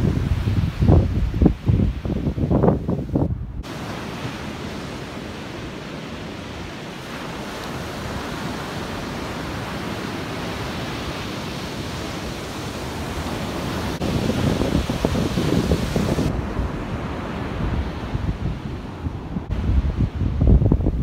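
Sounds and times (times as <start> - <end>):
ocean surf on sandy beach: 0.0 - 21.0.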